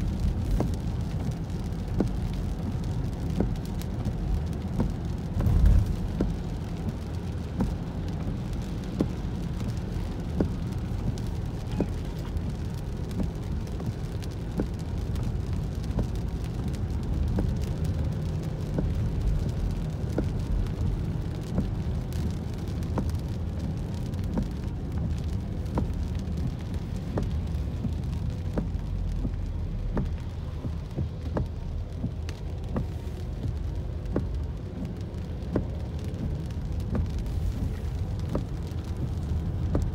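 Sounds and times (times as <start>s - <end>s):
car rumbling on wet road: 0.0s - 39.9s
raindrops tapping on windshield: 0.0s - 39.9s.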